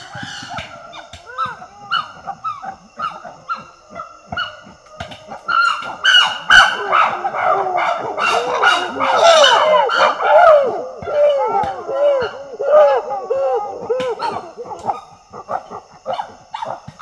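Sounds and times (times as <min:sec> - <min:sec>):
chimpanzees screaming: 0:00.0 - 0:17.0.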